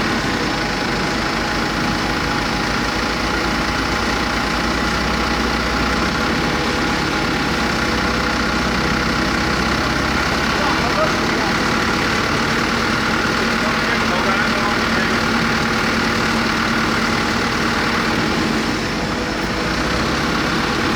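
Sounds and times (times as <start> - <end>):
industrial machinery hum: 0.0 - 20.9.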